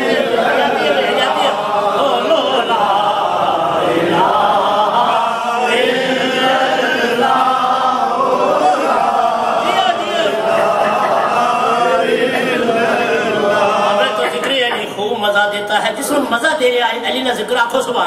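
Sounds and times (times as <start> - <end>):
man singing unaccompanied: 0.0 - 16.0.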